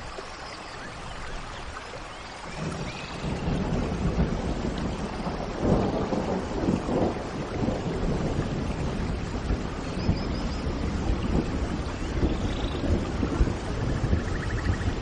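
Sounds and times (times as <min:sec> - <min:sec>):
steady rain: 0:00.0 - 0:15.0
low rumble of thunder: 0:02.4 - 0:15.0.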